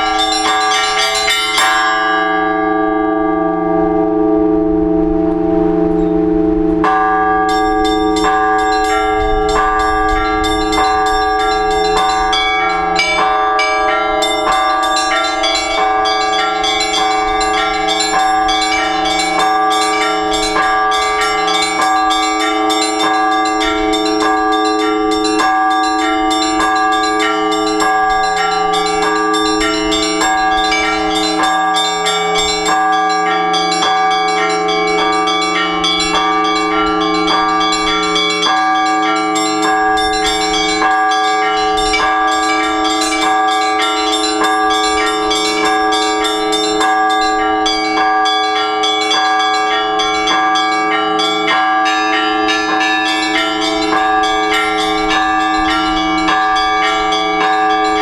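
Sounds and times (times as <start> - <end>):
deep church bells ringing: 0.0 - 58.0
small church bells striking: 0.0 - 58.0.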